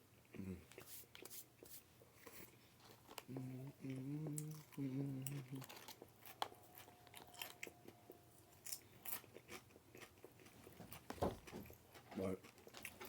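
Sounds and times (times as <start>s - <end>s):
chewing with small crunches: 0.0s - 13.0s.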